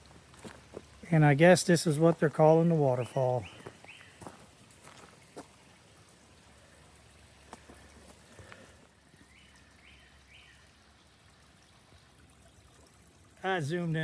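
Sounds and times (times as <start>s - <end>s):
faint trickle of water: 0.0s - 14.0s.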